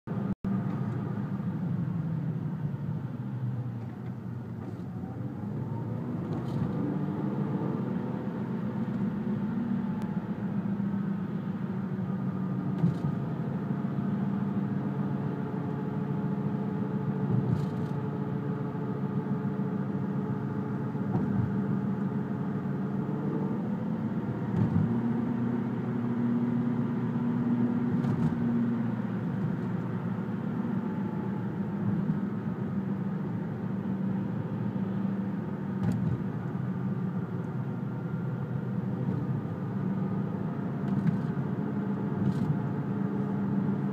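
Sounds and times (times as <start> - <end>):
car engine running with drone: 0.1 - 43.9.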